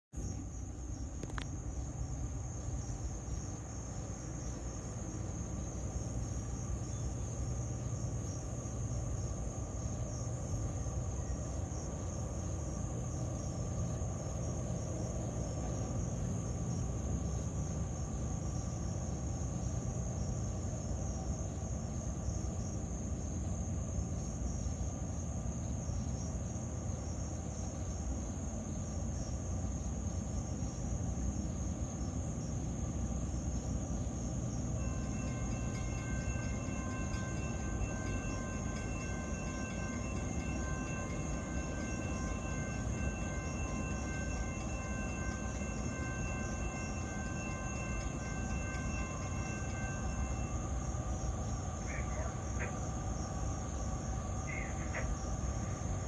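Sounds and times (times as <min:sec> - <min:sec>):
distant train rumble: 0:00.2 - 0:56.0
night insects chorus: 0:00.2 - 0:56.0.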